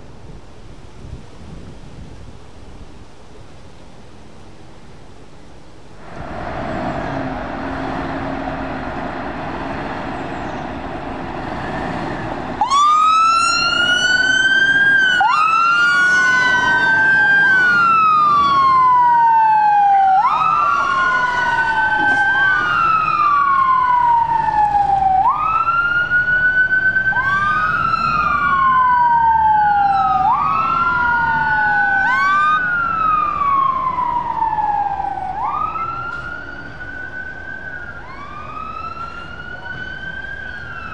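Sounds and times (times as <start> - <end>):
road noise rumble: 0.0 - 40.9
emergency vehicle siren wailing: 6.0 - 40.9.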